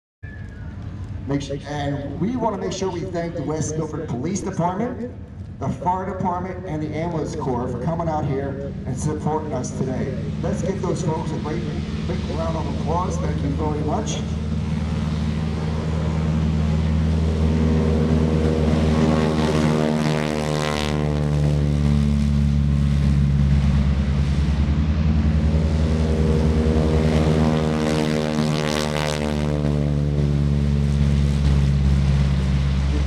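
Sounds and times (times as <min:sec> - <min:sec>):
propeller planes taking off: 0:00.2 - 0:33.0.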